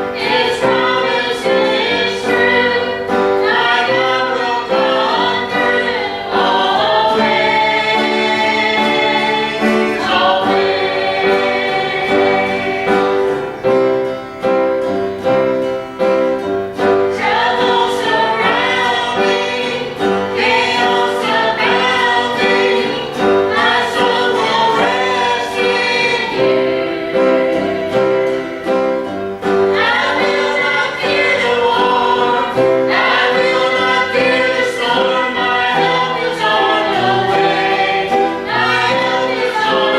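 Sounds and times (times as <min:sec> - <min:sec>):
backup singers: 0:00.0 - 0:14.1, 0:16.8 - 0:39.9
piano accompaniment: 0:00.0 - 0:39.9.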